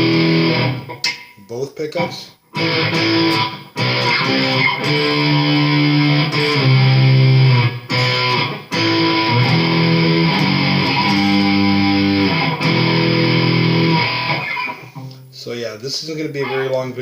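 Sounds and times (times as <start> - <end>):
electric guitar strumming chords: 0.0 - 1.4, 2.5 - 15.3.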